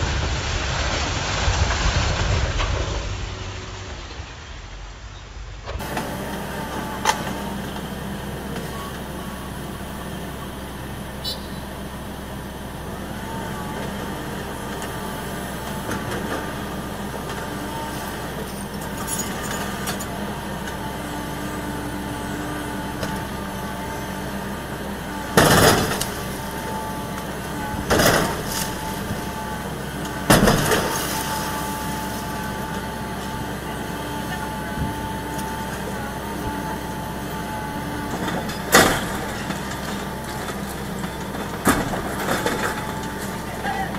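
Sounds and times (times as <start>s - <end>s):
excavator running: 0.0s - 43.9s.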